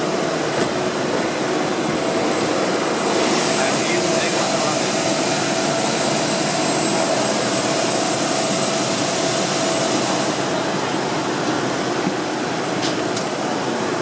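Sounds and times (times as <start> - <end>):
jet turbine hiss and whine: 0.0 - 14.0.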